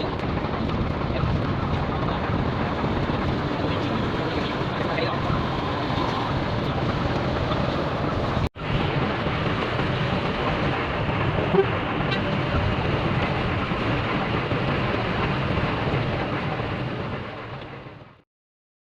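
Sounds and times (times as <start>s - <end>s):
bus engine and road noise: 0.0s - 18.2s.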